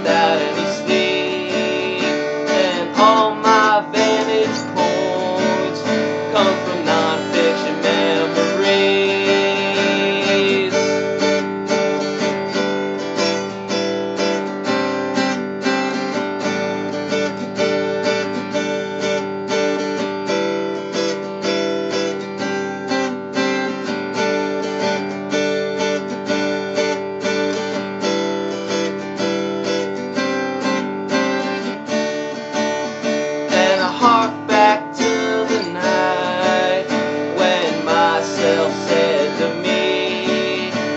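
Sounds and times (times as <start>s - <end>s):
strummed acoustic guitar: 0.0s - 40.9s.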